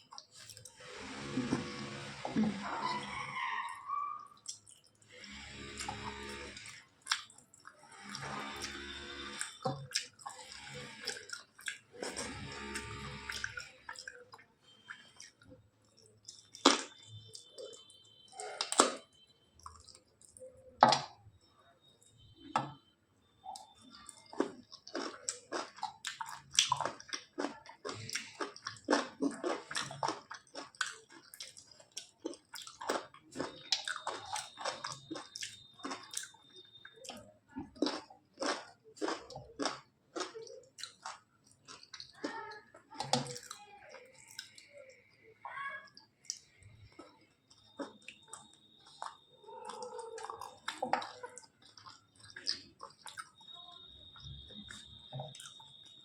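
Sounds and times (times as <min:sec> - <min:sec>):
chewing and wet mouth sounds: 0:00.0 - 0:22.8, 0:23.4 - 0:56.0.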